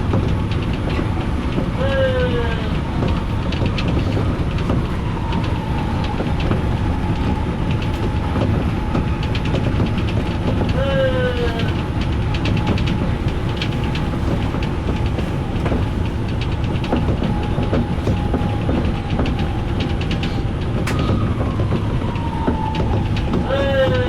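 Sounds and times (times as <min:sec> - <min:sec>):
train rumble: 0:00.0 - 0:24.0
wheels clicking over rails: 0:00.0 - 0:24.0.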